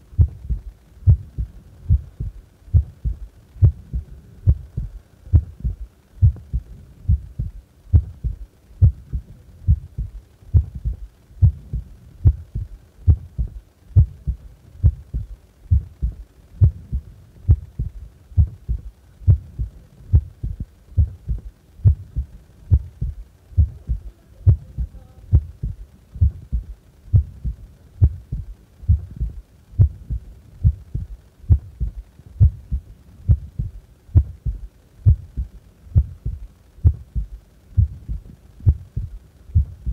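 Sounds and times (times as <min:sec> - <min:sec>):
heart beating: 0:00.2 - 0:39.9.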